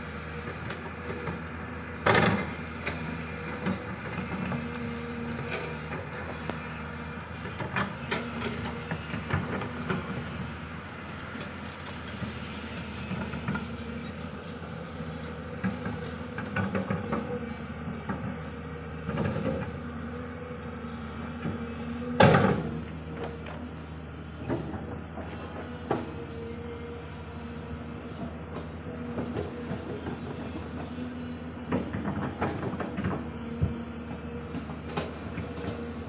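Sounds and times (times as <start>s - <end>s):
diesel excavator engines running: 0.0s - 36.0s.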